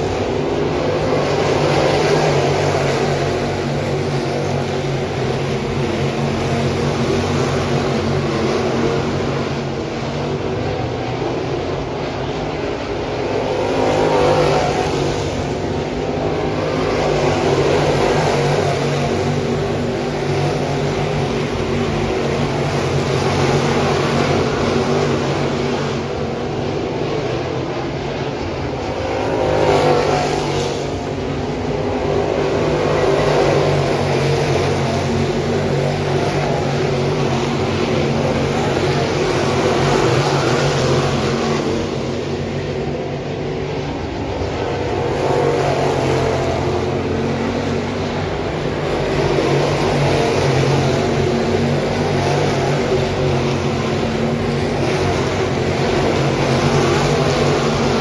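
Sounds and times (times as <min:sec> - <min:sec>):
race car engines passing: 0:00.0 - 0:58.0.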